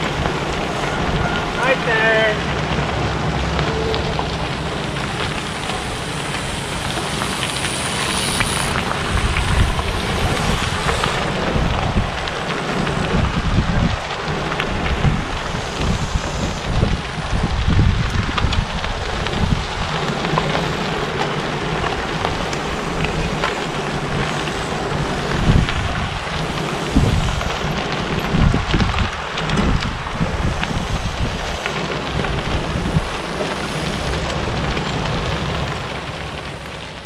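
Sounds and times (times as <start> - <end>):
bike tyres crunching on gravel: 0.0 - 37.0
small stone ticks: 0.0 - 37.0
wind buffeting microphone: 0.0 - 37.0.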